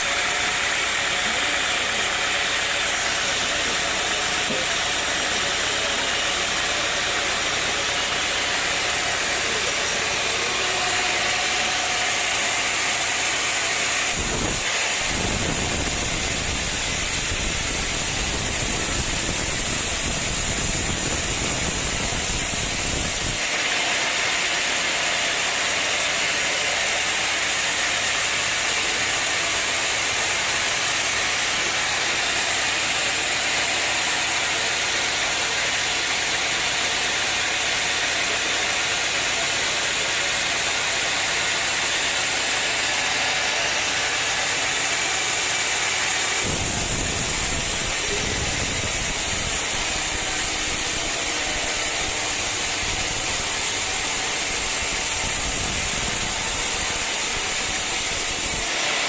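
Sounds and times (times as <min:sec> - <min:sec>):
sawmill machinery drone and hiss: 0:00.0 - 0:59.0.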